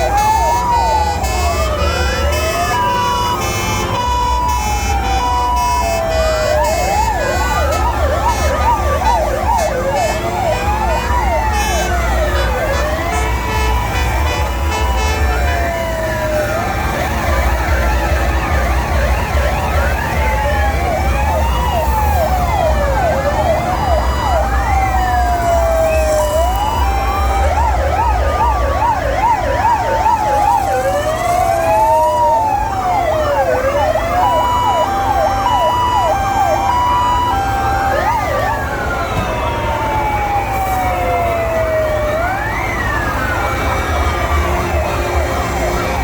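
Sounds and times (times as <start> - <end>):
fire engine sirens: 0.0 - 46.0.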